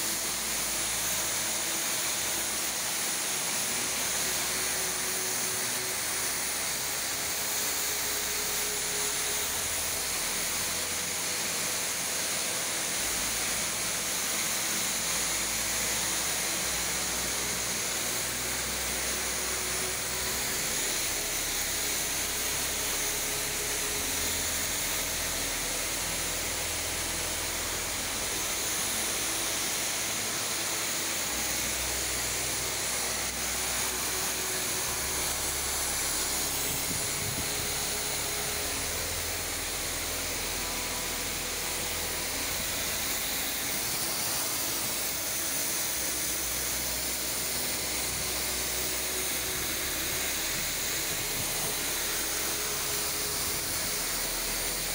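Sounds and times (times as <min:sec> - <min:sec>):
pressure washer spraying: 0:00.0 - 0:54.9.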